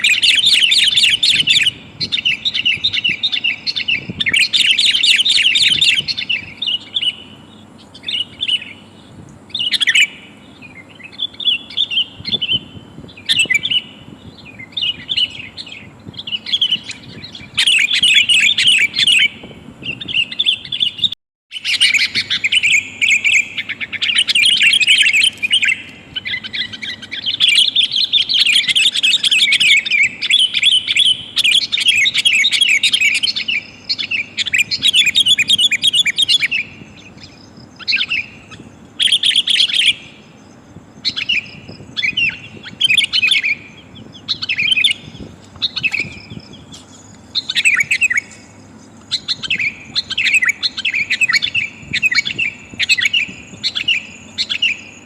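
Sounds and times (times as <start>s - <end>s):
bird chattering calls: 0.0s - 55.0s.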